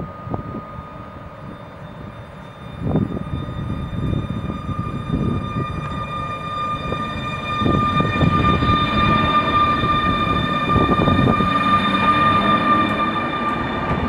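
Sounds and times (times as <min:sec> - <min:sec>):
electric locomotive whine: 0:00.0 - 0:14.0
wheels rumbling on track: 0:00.0 - 0:14.0.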